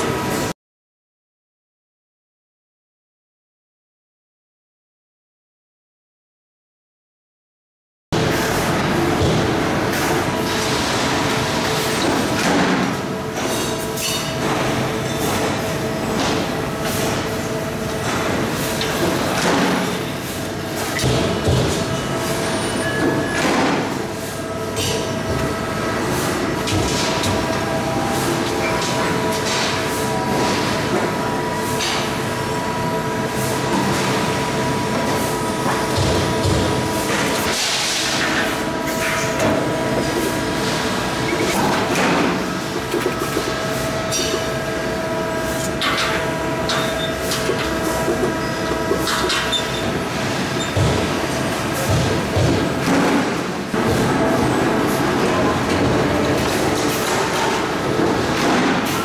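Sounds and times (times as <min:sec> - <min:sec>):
press brake machine hum: 0:08.2 - 0:59.0.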